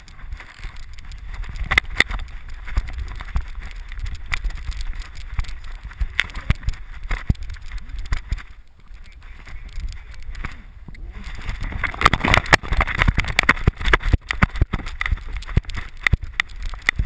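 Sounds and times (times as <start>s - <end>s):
camera handling rumble: 0.0s - 17.0s.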